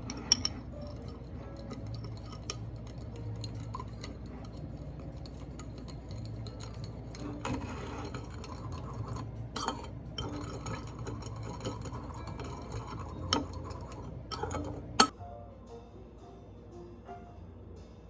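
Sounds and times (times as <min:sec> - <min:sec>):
glassware and dishes clinking: 0:00.0 - 0:15.1
steady low hum: 0:00.0 - 0:18.0.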